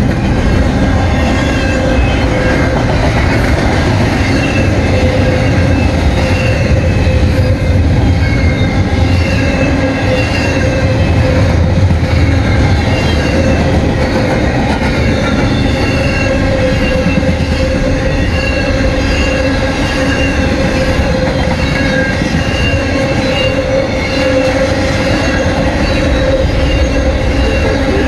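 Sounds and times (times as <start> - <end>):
steel wheels rumbling on rail: 0.0 - 28.0.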